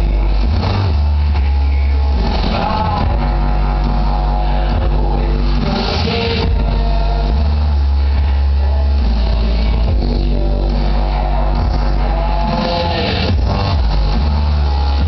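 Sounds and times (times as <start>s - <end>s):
loud music with heavy bass: 0.0s - 15.0s.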